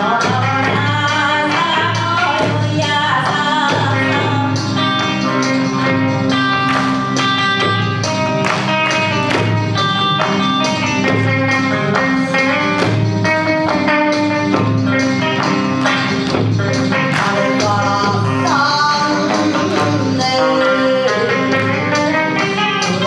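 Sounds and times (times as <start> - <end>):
steady drum beat: 0.0 - 20.4
electric guitar melody: 0.0 - 23.0.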